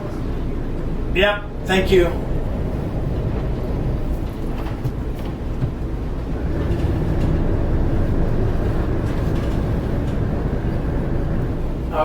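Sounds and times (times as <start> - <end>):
diesel engines rumbling: 0.0 - 12.0
steady higher engine tone: 0.0 - 12.0.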